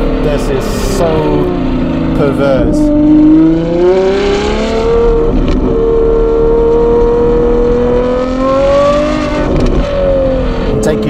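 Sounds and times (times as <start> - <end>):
car engine revving in gear: 0.0 - 10.9.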